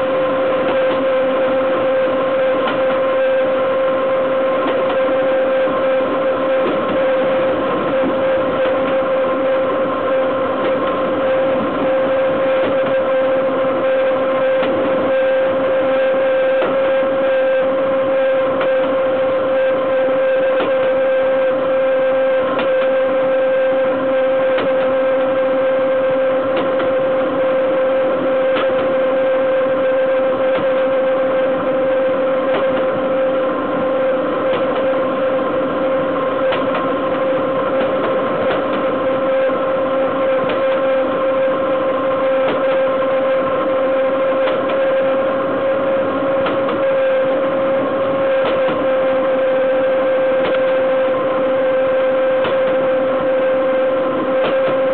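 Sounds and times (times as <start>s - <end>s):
constant whining tone: 0.0s - 54.9s.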